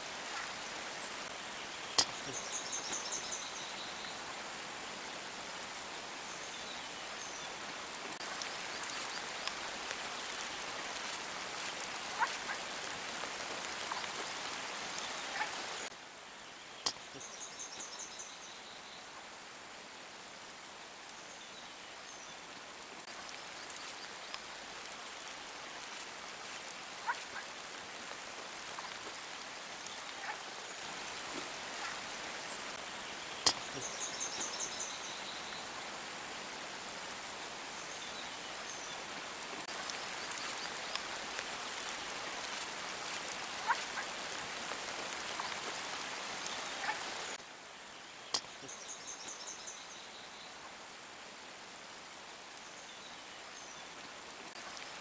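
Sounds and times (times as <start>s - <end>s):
rain falling in forest: 0.0s - 55.0s.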